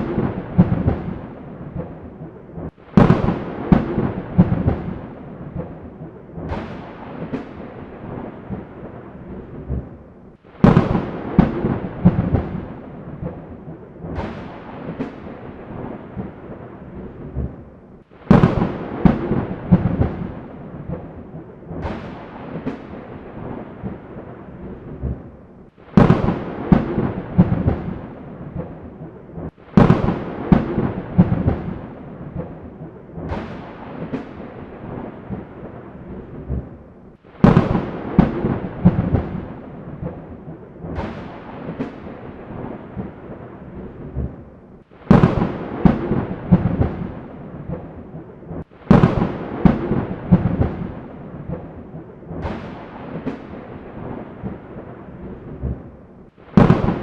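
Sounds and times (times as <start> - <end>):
thunderclaps with rumble: 0.0 - 57.0.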